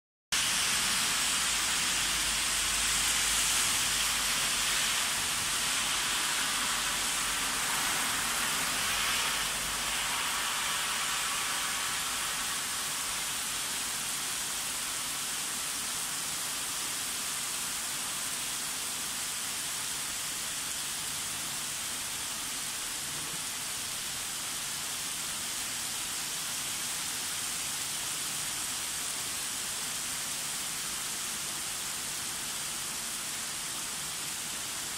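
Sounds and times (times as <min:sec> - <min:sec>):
heavy rain on pavement: 0:00.4 - 0:34.9.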